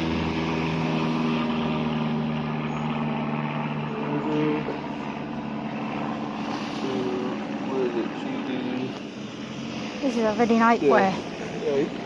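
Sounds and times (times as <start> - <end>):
broad rushing noise: 0.0 - 12.0
low mechanical hum: 0.0 - 12.0.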